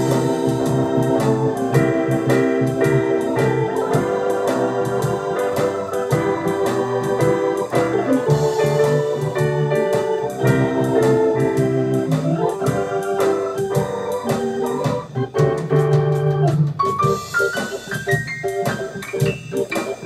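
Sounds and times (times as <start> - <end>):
electric keyboard playing blues: 0.0 - 20.0
organ chords: 0.0 - 20.0.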